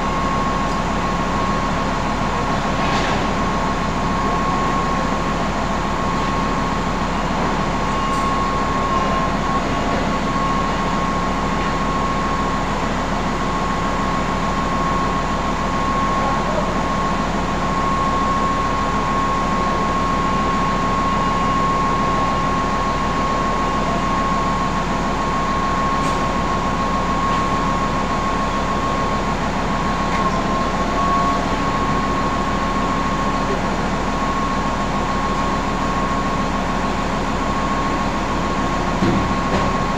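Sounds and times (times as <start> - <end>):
industrial machinery droning: 0.0 - 39.9.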